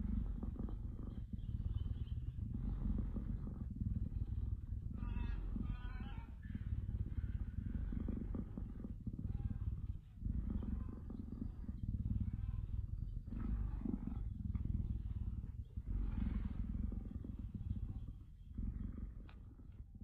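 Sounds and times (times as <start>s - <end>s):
cheetah purring: 0.0s - 20.0s.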